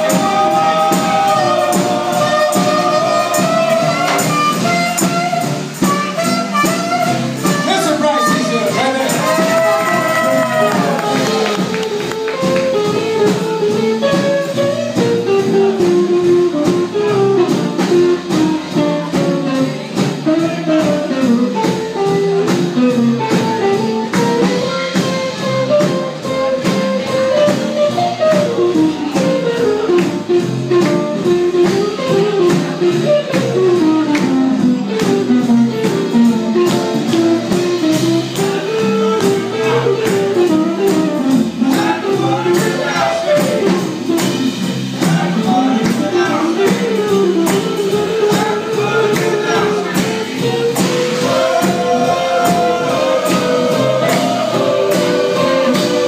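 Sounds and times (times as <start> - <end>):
guitar melody: 0.0 - 56.0
small jazz band playing: 0.0 - 56.0
upright bass: 0.0 - 56.0.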